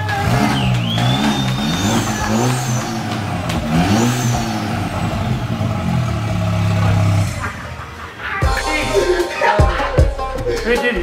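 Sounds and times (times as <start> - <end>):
car engine revving: 0.0 - 9.2
high turbo whine: 0.0 - 9.2.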